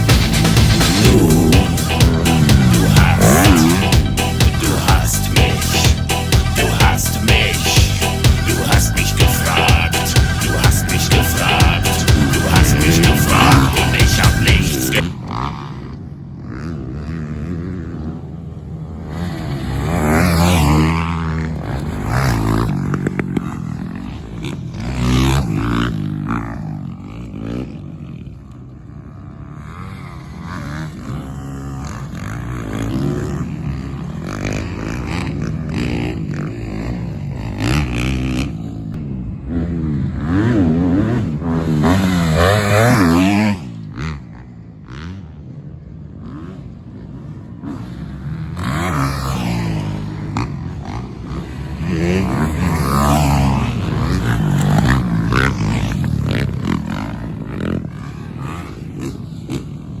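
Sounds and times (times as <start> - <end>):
dirt bike engine revving: 0.0 - 45.4, 46.0 - 60.0.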